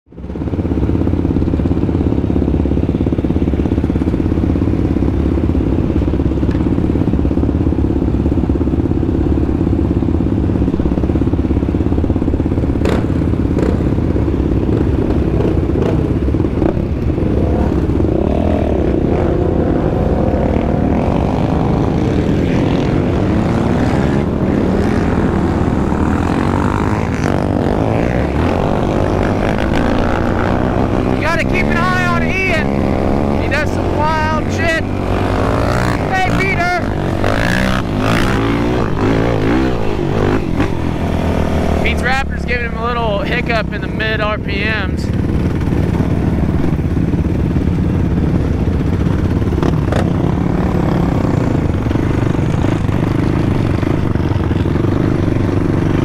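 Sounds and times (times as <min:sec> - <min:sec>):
quad bike engine running: 0:00.1 - 0:56.0.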